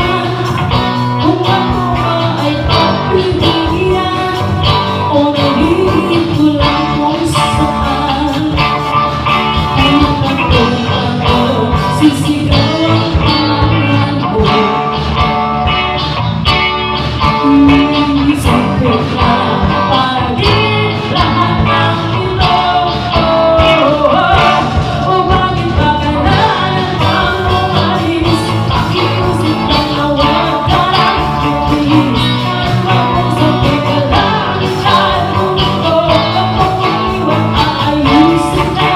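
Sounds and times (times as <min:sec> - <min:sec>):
lead singer singing: 0:00.0 - 0:15.6, 0:17.2 - 0:38.9
band playing a song: 0:00.0 - 0:38.9.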